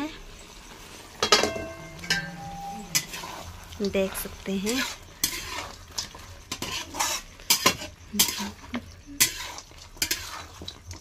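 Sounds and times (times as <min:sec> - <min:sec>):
light sizzle: 0:00.0 - 0:11.0
metal spatula scraping a pan: 0:00.9 - 0:11.0.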